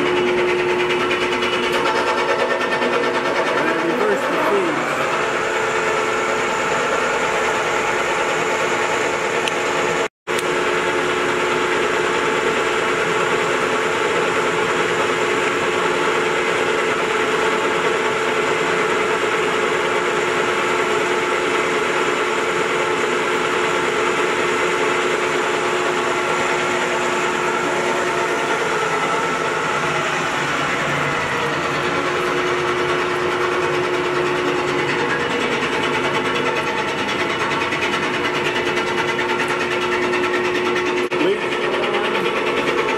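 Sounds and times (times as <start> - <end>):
lathe whirring: 0.0 - 42.9.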